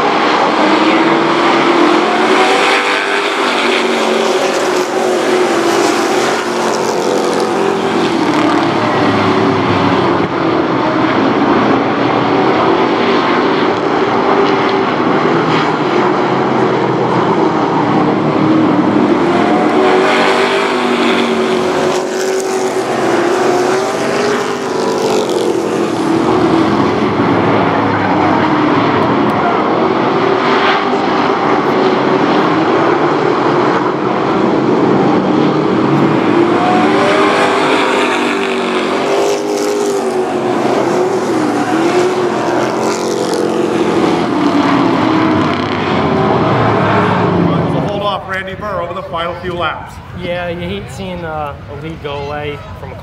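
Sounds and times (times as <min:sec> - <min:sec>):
race truck engines passing: 0:00.0 - 0:53.0.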